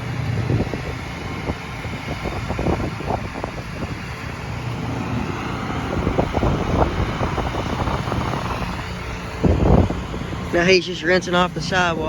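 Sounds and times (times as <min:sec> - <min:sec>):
pressure washer running: 0:00.0 - 0:12.0.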